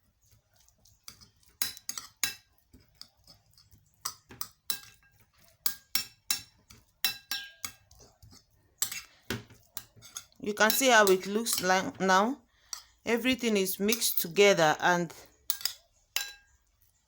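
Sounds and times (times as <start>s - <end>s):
spoon scraping and clinking on a plate: 0.3s - 14.4s, 15.2s - 17.0s.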